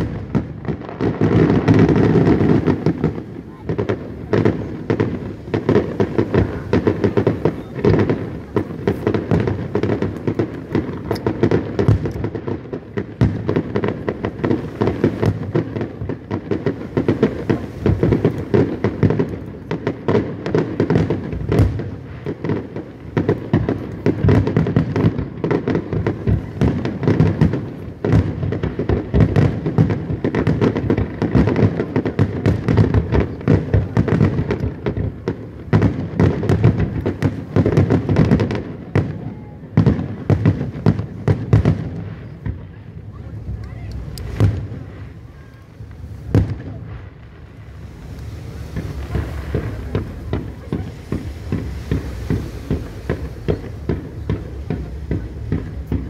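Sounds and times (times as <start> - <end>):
fireworks bursts and crackle: 0.0 - 56.0.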